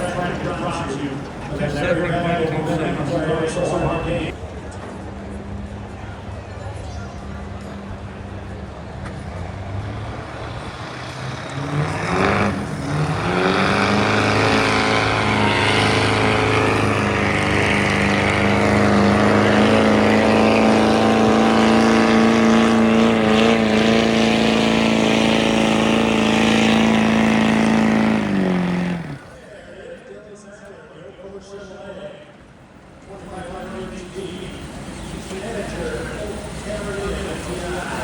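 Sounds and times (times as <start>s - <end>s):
diesel truck engine revving: 0.0s - 4.6s, 7.2s - 29.6s, 33.0s - 38.0s.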